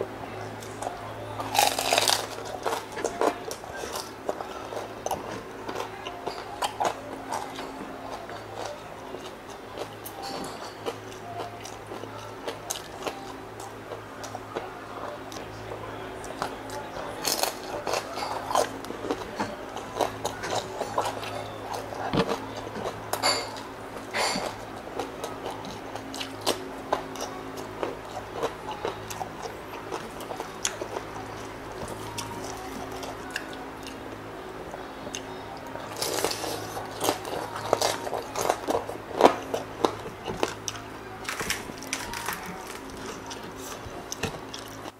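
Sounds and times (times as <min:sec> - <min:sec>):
crunchy chewing: 0:00.6 - 0:15.5, 0:16.2 - 0:44.9.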